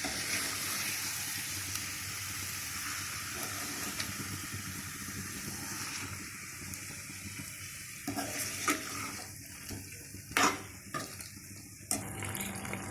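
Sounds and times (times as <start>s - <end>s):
food sizzling in a frying pan: 0.0s - 12.9s.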